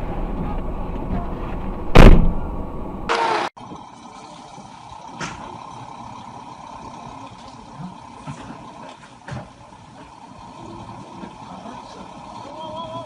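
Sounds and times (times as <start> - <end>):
heavy vehicle engine running: 0.0 - 3.1, 3.7 - 13.0.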